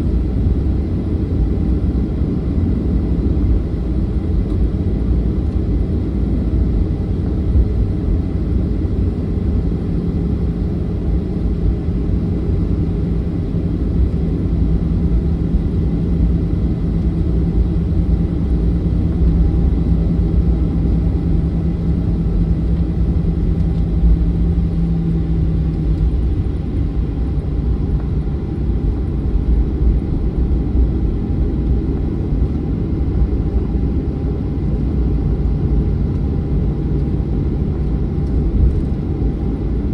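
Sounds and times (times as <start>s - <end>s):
jet engines idling: 0.0s - 39.9s
steady hum: 0.0s - 39.9s.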